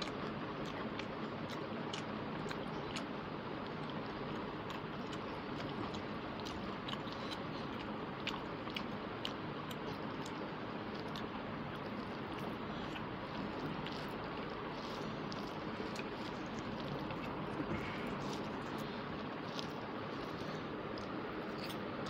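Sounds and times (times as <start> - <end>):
person chewing: 0.0 - 22.0.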